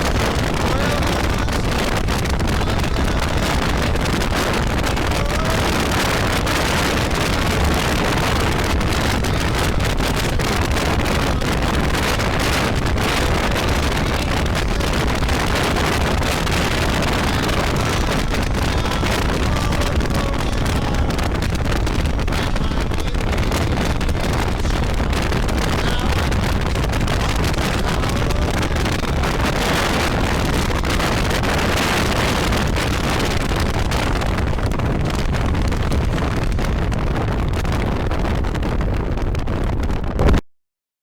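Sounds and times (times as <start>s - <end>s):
motorcycle engine running: 0.0s - 37.3s
wind rushing over microphone: 0.0s - 40.4s.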